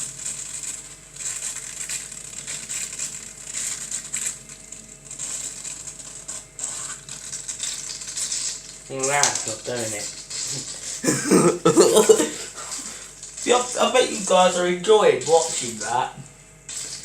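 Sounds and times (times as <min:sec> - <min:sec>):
soda bottle crackling and fizzing: 0:00.0 - 0:17.0.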